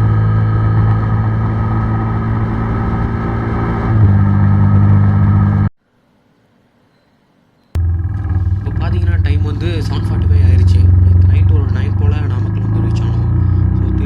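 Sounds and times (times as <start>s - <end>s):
motorcycle engine running: 0.0s - 5.7s, 7.8s - 14.0s.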